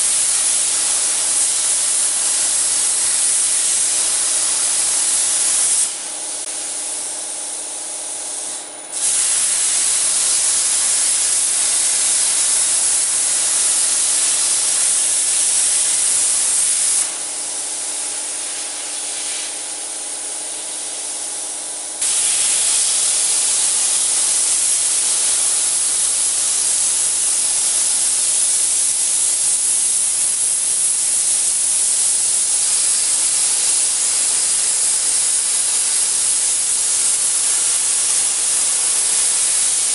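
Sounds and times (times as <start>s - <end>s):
cutting torch hissing: 0.0s - 7.7s, 8.3s - 19.8s, 22.0s - 39.9s.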